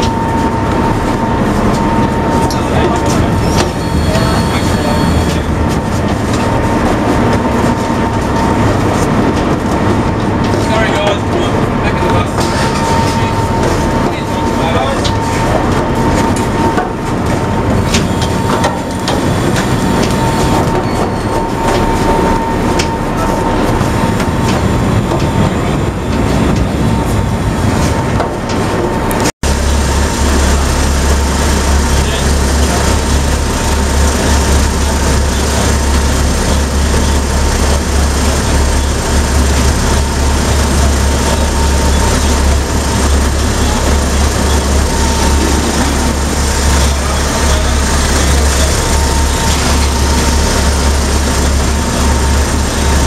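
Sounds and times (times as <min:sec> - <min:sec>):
diesel engine rumbling: 0:00.0 - 0:53.0.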